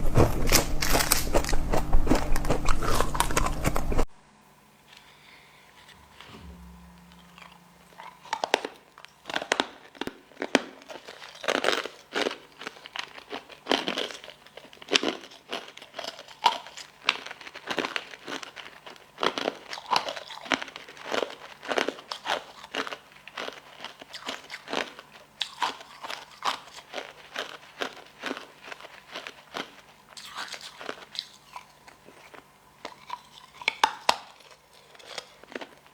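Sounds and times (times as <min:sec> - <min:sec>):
crunchy chewing: 0:00.2 - 0:04.1, 0:09.3 - 0:35.9.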